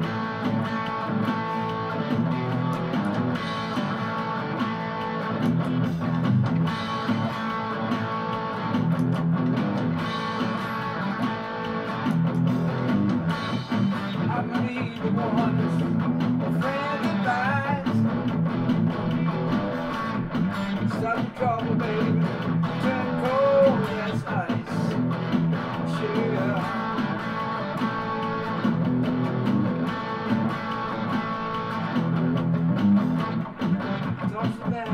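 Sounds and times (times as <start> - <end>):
bent electric guitar lead notes: 0.0 - 34.9
electric guitar chords: 0.0 - 34.9.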